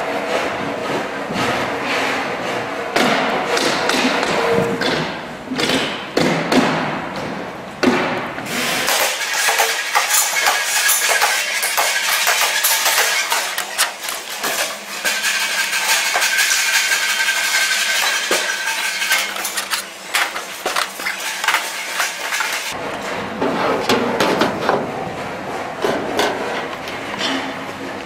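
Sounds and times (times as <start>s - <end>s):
workshop background noise: 0.0s - 28.0s.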